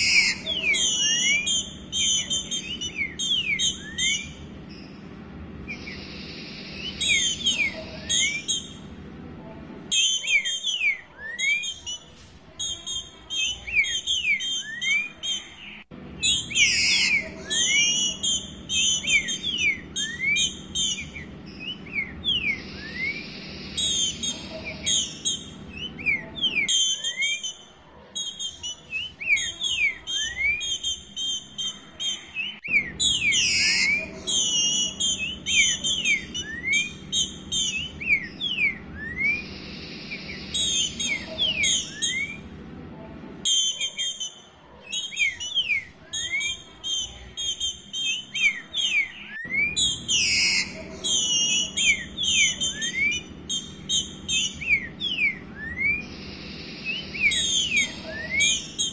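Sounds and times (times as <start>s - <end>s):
bird whistling and chirping: 0.0s - 8.9s, 9.9s - 42.6s, 43.4s - 58.9s.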